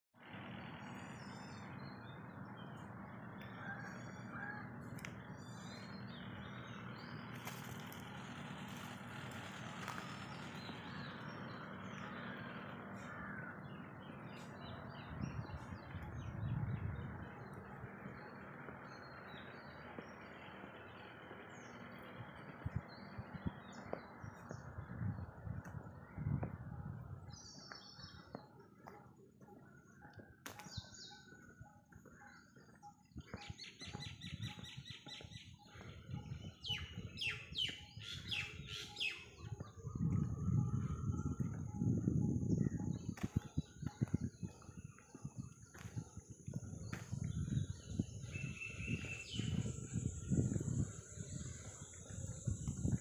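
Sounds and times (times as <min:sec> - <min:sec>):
low rumble: 0:00.2 - 0:28.6, 0:35.6 - 0:53.0
birds chirping: 0:00.3 - 0:53.0.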